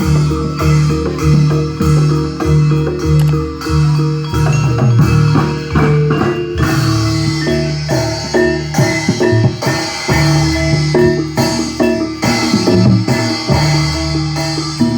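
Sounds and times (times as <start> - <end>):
bronze metallophones ringing: 0.0 - 14.9
drums: 0.0 - 14.9.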